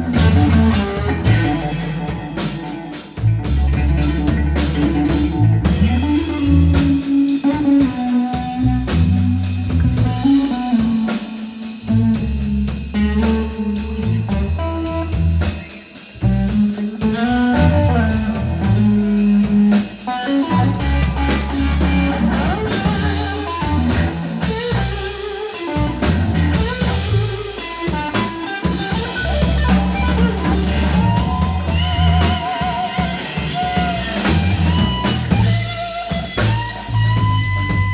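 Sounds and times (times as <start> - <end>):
deep bass notes: 0.0 - 37.9
drum kit: 0.0 - 37.9
electric guitar lines: 0.0 - 37.9.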